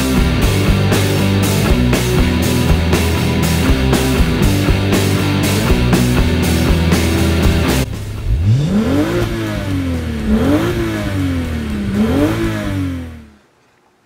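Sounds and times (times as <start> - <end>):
music: 0.0 - 11.8
car engine revving: 0.0 - 13.4.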